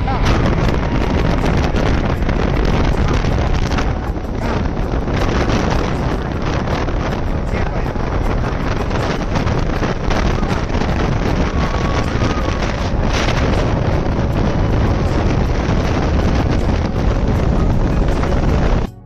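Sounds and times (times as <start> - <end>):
motorcycle running: 0.0 - 19.0
wind buffeting microphone: 0.0 - 19.0.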